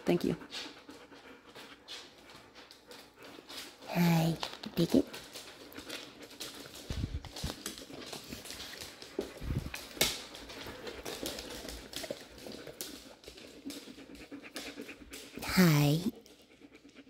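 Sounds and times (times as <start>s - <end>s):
dog claws clicking on hard floor: 1.5s - 15.4s.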